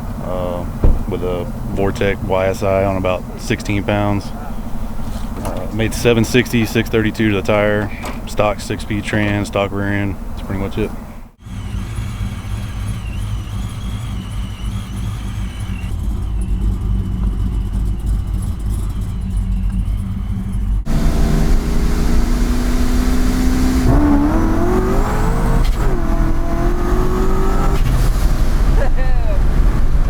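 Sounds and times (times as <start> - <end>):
car engine revving: 0.0 - 30.0
supercharger whine: 0.0 - 30.0.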